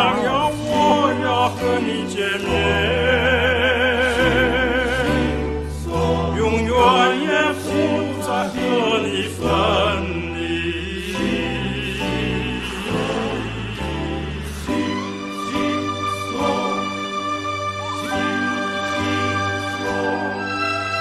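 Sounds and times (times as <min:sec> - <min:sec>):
person singing with vibrato: 0:00.0 - 0:21.0.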